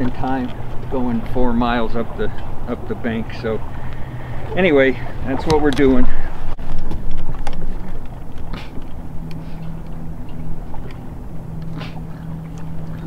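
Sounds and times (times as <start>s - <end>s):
electric trolling motor humming: 0.0s - 13.0s
wind and water rumble: 0.0s - 13.0s.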